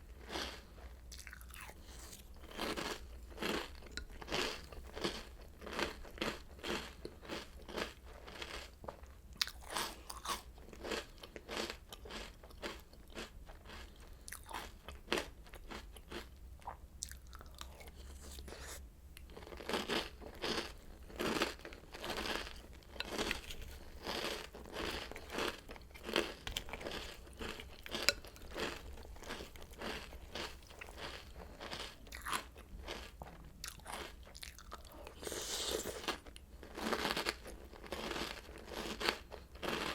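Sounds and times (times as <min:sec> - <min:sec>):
chewing crunchy cereal: 0:00.0 - 0:39.9.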